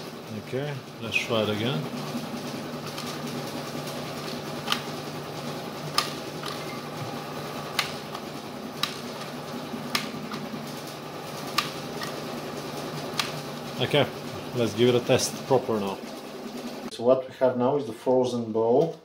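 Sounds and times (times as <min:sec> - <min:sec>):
mixer motor running: 0:00.0 - 0:16.9.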